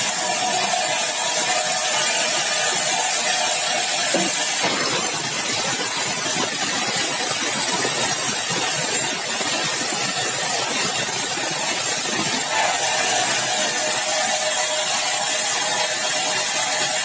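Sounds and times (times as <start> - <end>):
saw cutting through log: 0.0 - 17.0.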